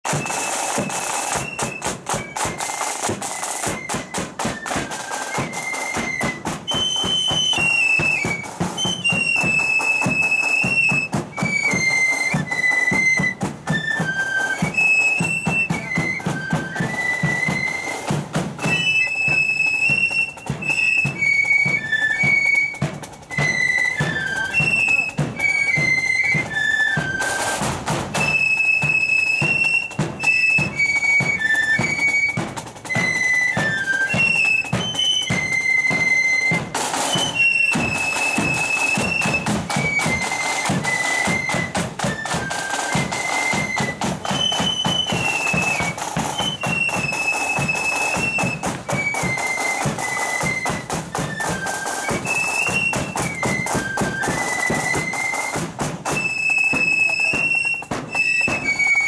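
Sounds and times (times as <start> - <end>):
flutes playing melody: 0.0 - 59.0
snare and bass drums: 0.0 - 59.0.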